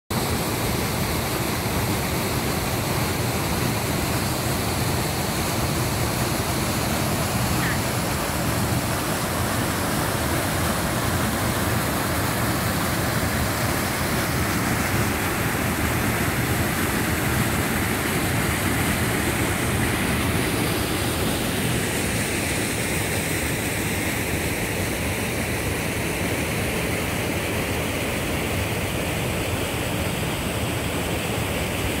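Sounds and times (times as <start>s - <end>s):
stream cascading over rocks: 0.1s - 32.0s.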